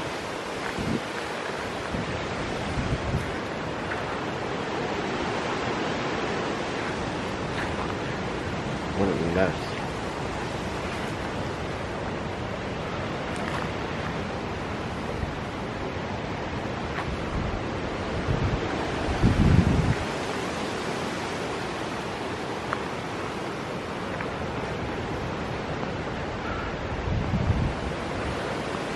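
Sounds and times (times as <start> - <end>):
storm wind rushing: 0.0 - 22.2, 24.4 - 28.9.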